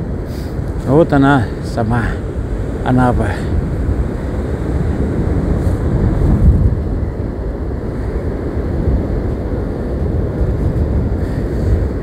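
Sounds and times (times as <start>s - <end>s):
storm surf: 0.0s - 12.0s
wind buffeting microphone: 0.0s - 12.0s.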